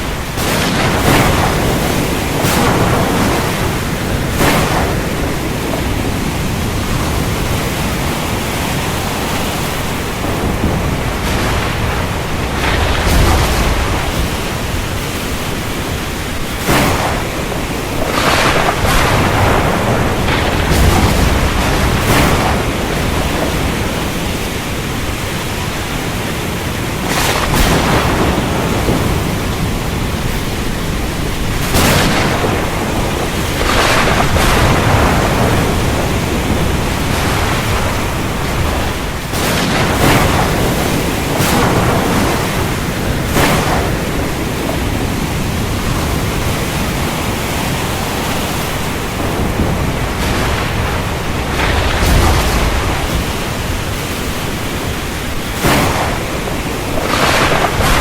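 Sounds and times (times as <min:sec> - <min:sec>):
deep thunder rumbles: 0:00.0 - 0:58.0
heavy rain: 0:00.0 - 0:58.0
sharp thunder cracks: 0:00.0 - 0:58.0.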